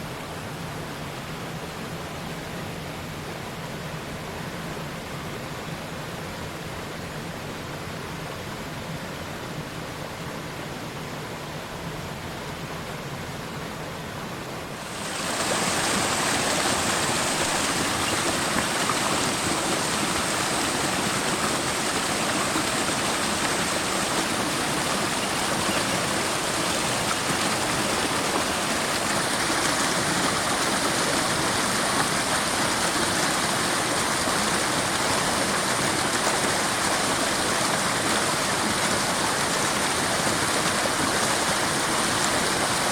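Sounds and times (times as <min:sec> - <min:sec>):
stream rushing water: 0:00.0 - 0:42.9.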